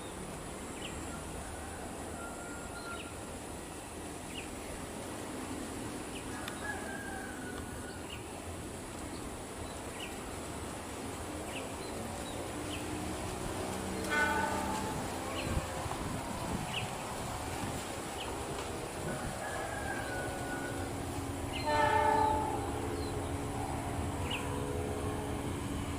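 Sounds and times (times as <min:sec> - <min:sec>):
steady background hiss: 0:00.0 - 0:25.9.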